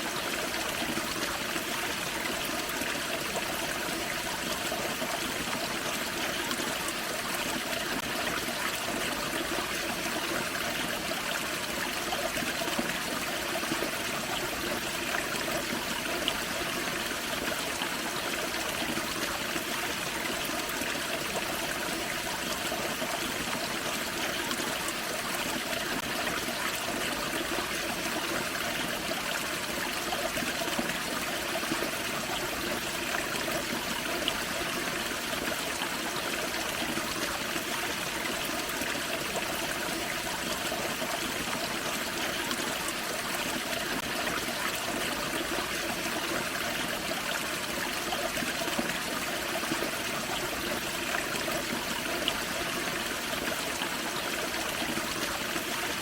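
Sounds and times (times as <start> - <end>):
creek water rushing and trickling: 0.0 - 56.0.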